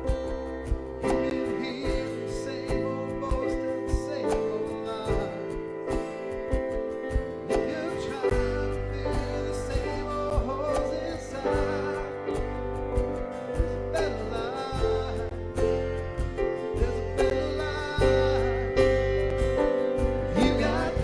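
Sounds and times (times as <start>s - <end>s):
deep bass line: 0.0s - 21.0s
drum strikes: 0.0s - 21.0s
person singing: 0.0s - 21.0s.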